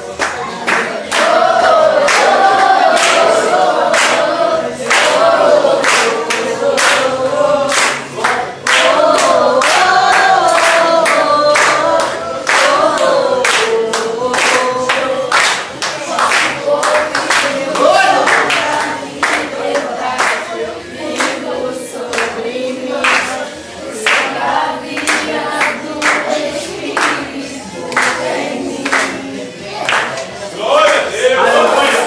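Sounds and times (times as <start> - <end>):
choir singing gospel: 0.0 - 32.0.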